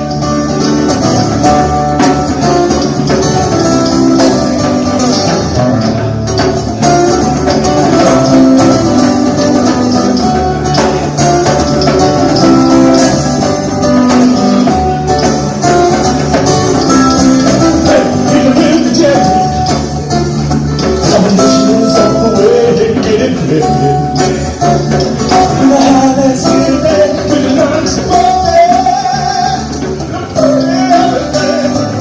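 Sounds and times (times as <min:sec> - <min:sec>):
drum beat: 0:00.0 - 0:32.0
steady bass line: 0:00.0 - 0:32.0
sustained electric guitar notes: 0:00.0 - 0:32.0.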